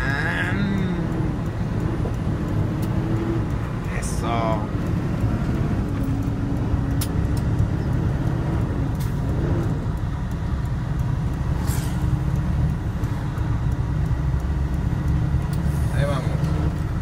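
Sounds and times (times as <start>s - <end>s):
diesel truck engine: 0.0s - 17.0s
road rumble: 0.0s - 17.0s.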